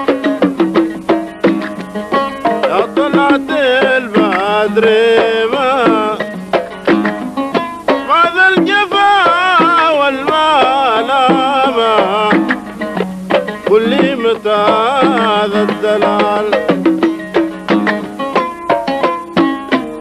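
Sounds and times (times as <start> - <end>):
hand drums beating: 0.0 - 20.0
ornamented melody line: 0.0 - 20.0
oud playing: 0.0 - 20.0.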